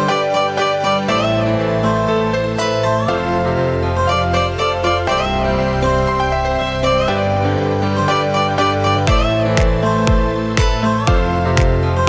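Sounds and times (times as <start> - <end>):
plucked-string melody: 0.0 - 12.0
sustained bass: 1.1 - 12.0.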